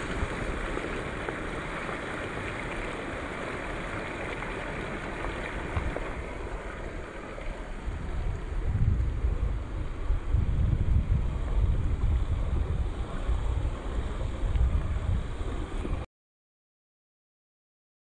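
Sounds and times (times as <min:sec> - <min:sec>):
wind buffeting microphone: 0:00.0 - 0:16.0
floodwater rushing: 0:00.0 - 0:16.1.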